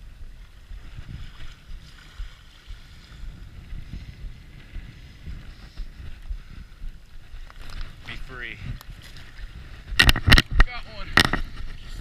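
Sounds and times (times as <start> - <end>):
small waves lapping shore: 0.0 - 12.0
wind gusting on microphone: 0.0 - 12.0.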